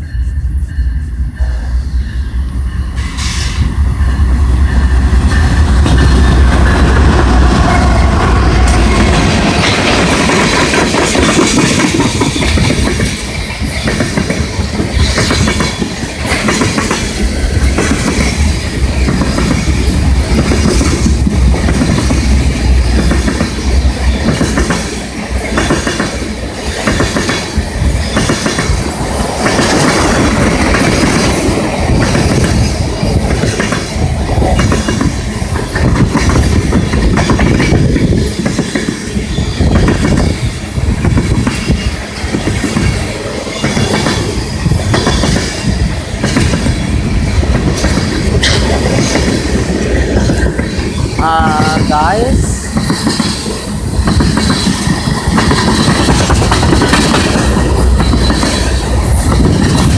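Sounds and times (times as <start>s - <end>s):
train rumble: 0.0s - 59.9s
wheels clacking over rail joints: 5.2s - 51.6s, 52.4s - 59.9s.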